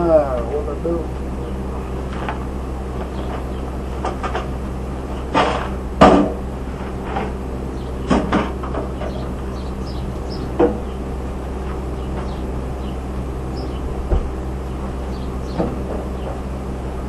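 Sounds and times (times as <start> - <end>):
welder humming: 0.0 - 17.0.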